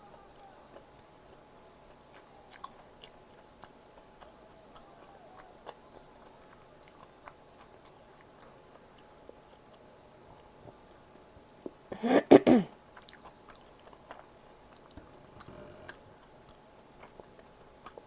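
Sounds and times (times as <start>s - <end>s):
person chewing food: 0.1s - 11.0s, 12.8s - 18.0s.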